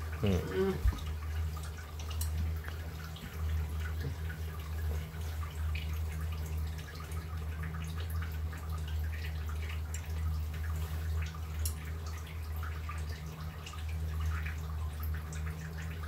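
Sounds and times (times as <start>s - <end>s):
liquid bubbling in a pot: 0.0s - 16.0s
steady low hum: 0.0s - 16.0s.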